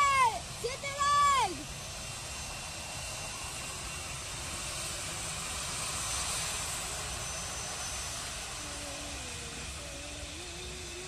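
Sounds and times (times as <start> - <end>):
faint high whine: 0.0 - 11.0
jet engines rushing: 0.0 - 11.0.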